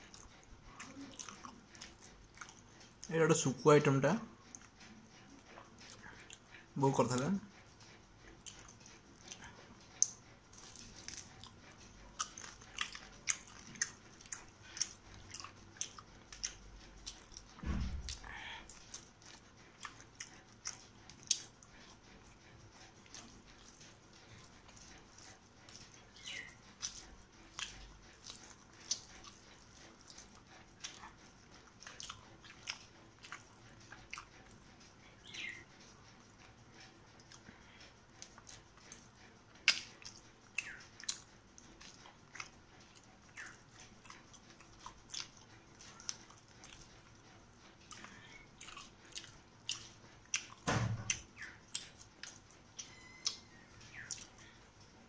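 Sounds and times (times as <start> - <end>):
crisp crunches of chewing: 0.0 - 3.1, 5.8 - 35.7, 37.2 - 54.6
wet chewing clicks: 0.0 - 54.9.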